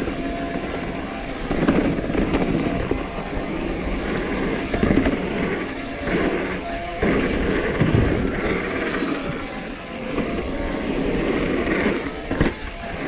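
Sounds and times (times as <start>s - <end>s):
bike rattling over bumps: 0.0s - 13.0s
bike tyres crunching on dirt: 0.0s - 13.0s.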